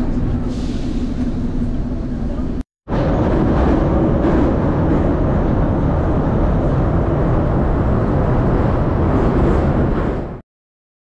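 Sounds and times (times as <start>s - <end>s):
metro train running noise: 0.0s - 10.4s.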